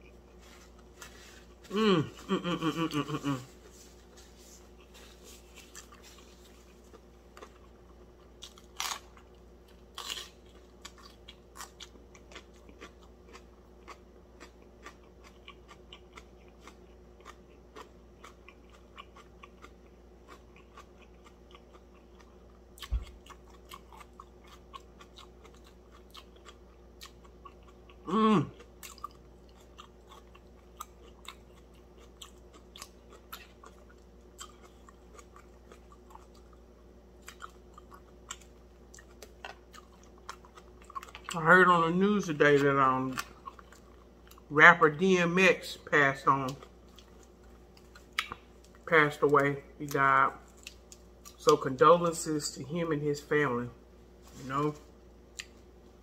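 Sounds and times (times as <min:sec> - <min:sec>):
crunchy chewing with mouth clicks: 0:00.0 - 0:41.5, 0:42.2 - 0:44.5, 0:46.3 - 0:51.6, 0:54.3 - 0:55.8.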